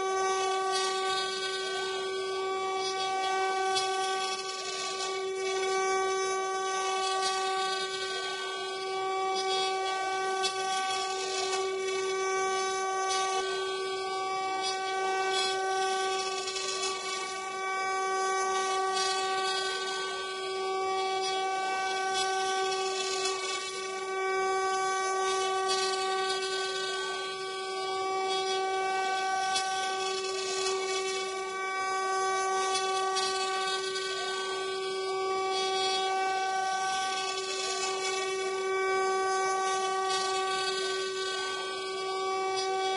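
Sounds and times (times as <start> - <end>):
router spindle whine: 0.0 - 42.9.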